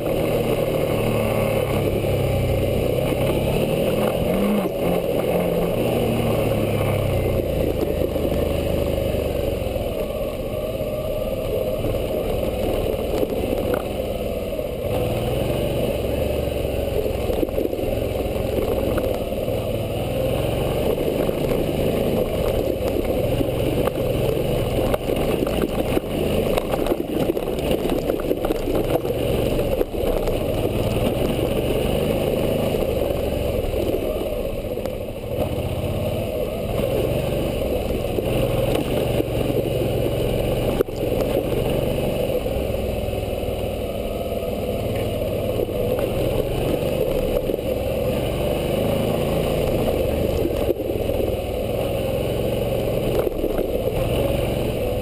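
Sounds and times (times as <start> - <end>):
motorcycle engine on dirt trail: 0.0 - 55.0.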